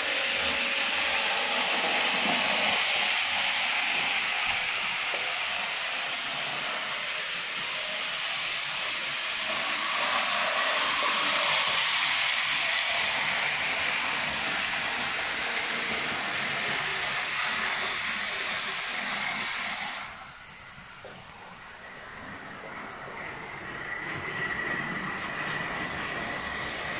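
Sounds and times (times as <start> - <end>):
model train running on track: 0.0 - 26.9.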